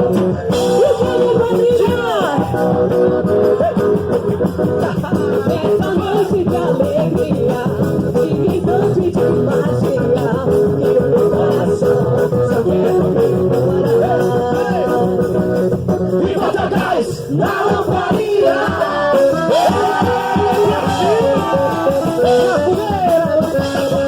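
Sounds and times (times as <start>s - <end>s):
singing over guitar: 0.0s - 24.0s.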